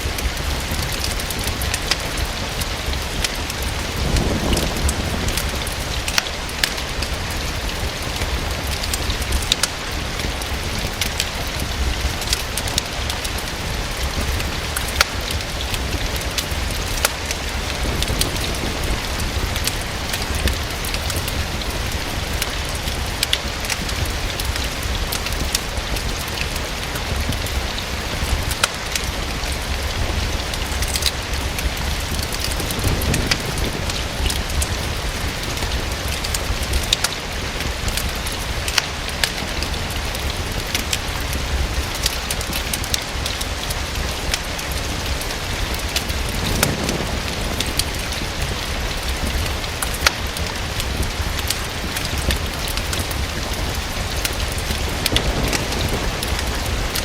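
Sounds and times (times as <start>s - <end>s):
rain against a window: 0.0s - 57.0s
wood fire crackling: 0.0s - 57.0s.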